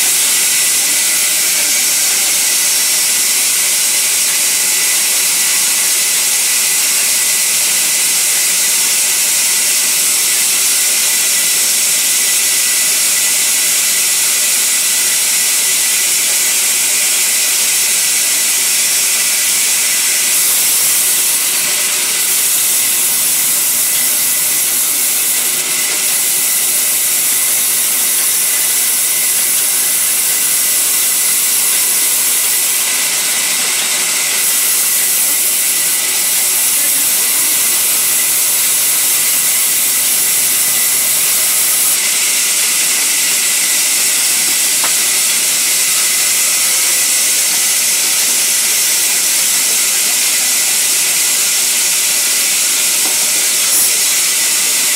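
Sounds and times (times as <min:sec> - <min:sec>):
band saw cutting wood: 0:00.0 - 0:54.9.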